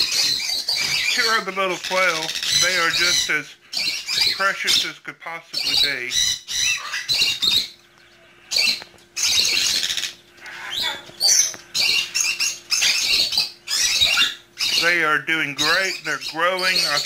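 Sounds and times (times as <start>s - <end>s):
quail chicks peeping: 0.0s - 5.0s, 5.6s - 17.0s.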